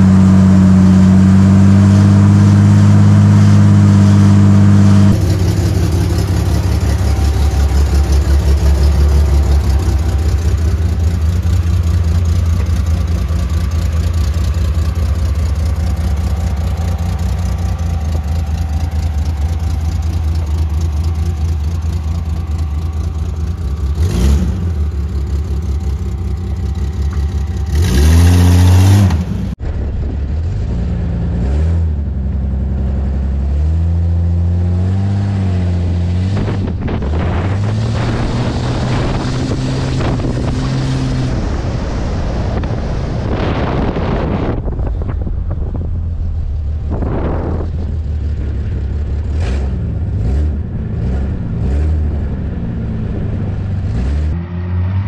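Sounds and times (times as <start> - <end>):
car engine running: 0.0 - 55.0
engine revving: 0.0 - 55.0.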